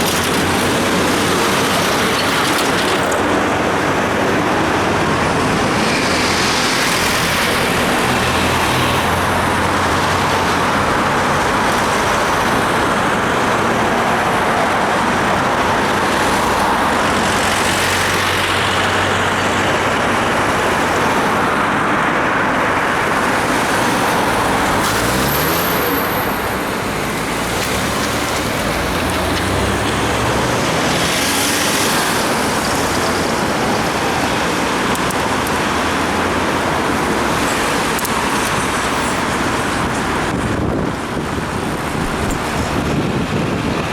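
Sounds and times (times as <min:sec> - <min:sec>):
road traffic on wet road: 0:00.0 - 0:43.9.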